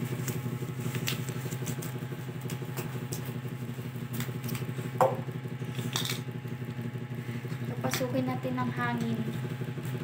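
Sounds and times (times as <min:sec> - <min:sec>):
low motor hum with flutter: 0:00.0 - 0:10.0.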